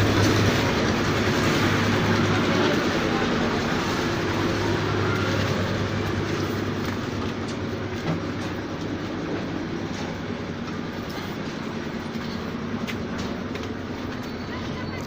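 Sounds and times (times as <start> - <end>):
heavy machinery running: 0.0 - 15.0.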